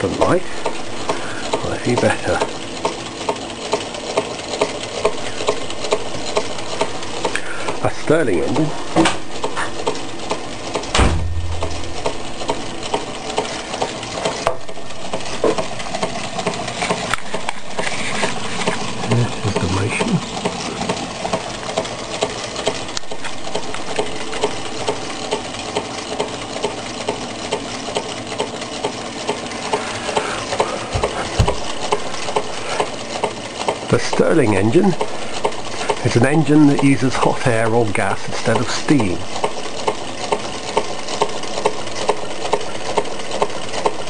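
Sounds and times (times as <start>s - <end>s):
model engine gears clicking and rattling: 0.0s - 11.0s, 11.6s - 44.0s.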